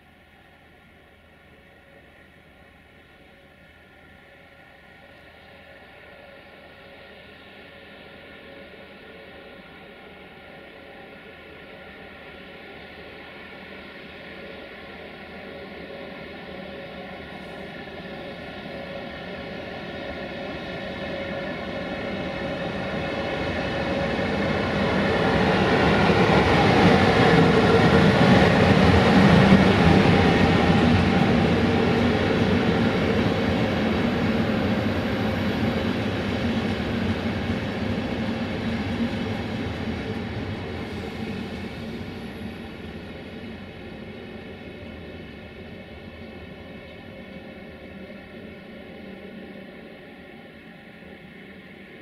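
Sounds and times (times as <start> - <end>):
faint locomotive hum: 0.0 - 52.0
train rolling past: 0.0 - 52.0.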